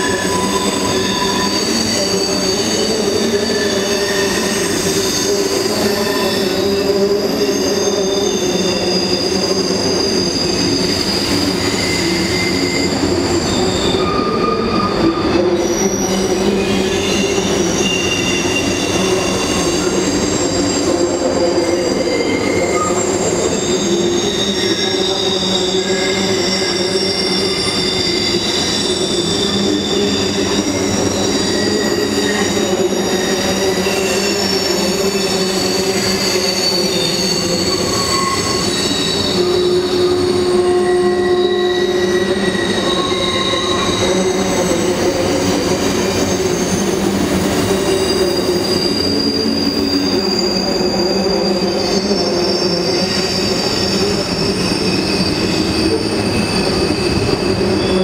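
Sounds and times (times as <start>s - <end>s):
wheels squealing: 0.0s - 58.0s.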